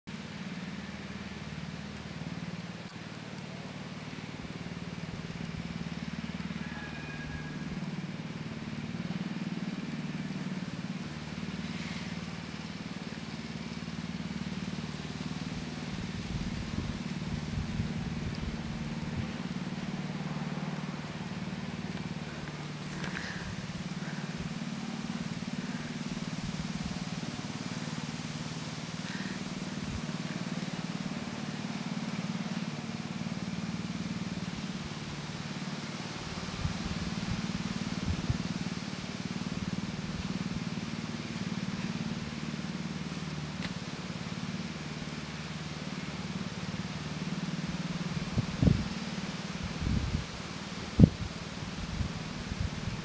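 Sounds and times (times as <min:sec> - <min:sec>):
low rumbles: 0:00.1 - 0:53.0
motor droning: 0:00.3 - 0:53.0.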